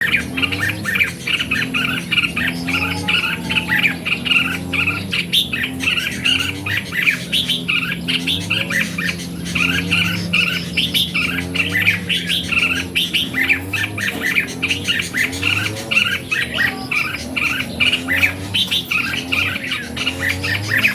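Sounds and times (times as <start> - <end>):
birds chirping and singing: 0.0 - 20.9
steady low hum: 0.0 - 20.9.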